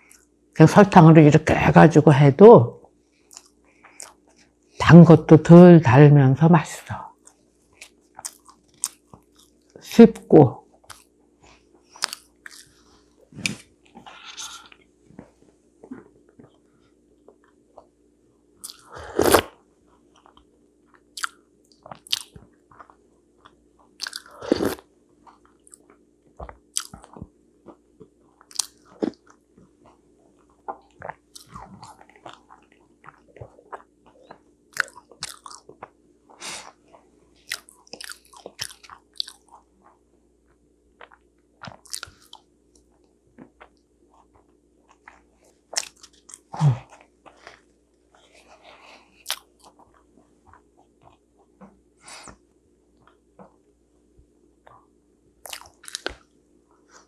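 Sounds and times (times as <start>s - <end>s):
chewing soft food: 2.8s - 4.8s, 7.0s - 9.8s, 10.6s - 57.0s.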